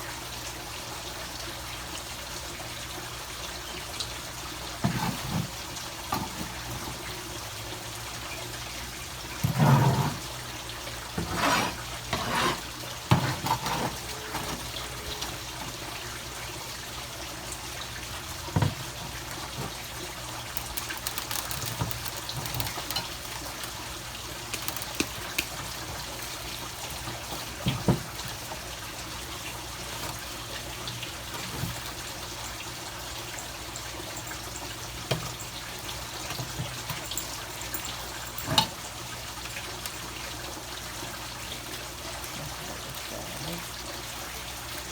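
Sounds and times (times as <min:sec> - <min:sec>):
water trickling: 0:00.2 - 0:44.9.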